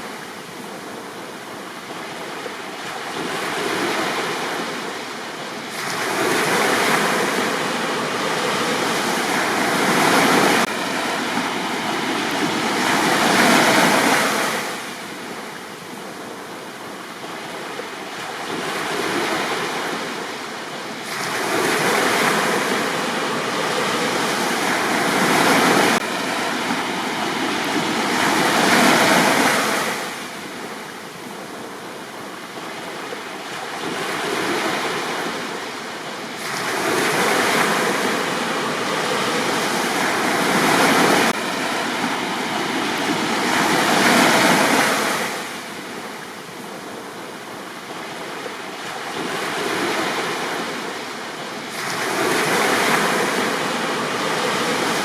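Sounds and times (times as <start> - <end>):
sea waves breaking on a beach: 0.0 - 55.0.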